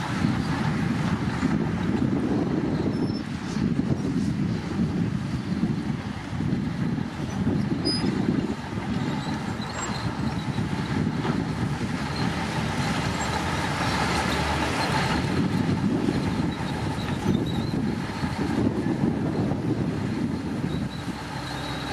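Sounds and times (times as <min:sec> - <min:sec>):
bulldozer diesel engine running: 0:00.0 - 0:21.9.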